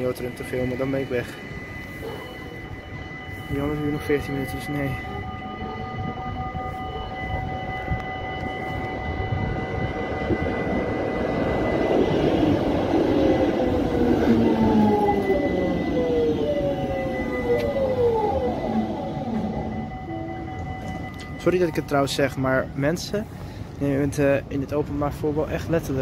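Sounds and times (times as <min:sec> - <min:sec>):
electric whine falling in pitch: 0:00.0 - 0:23.0
tram wheels rumbling on rails: 0:00.0 - 0:26.0.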